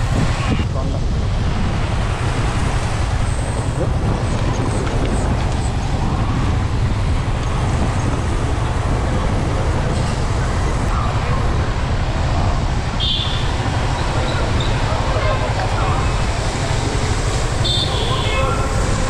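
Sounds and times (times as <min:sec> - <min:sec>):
motorcycle engine rumble: 0:00.0 - 0:19.0
road and air noise: 0:00.0 - 0:19.0.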